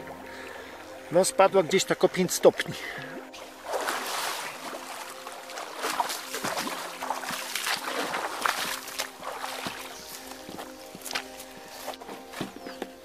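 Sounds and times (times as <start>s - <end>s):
steady wash of moving water: 0.0s - 12.4s
river water splashing: 0.0s - 13.0s.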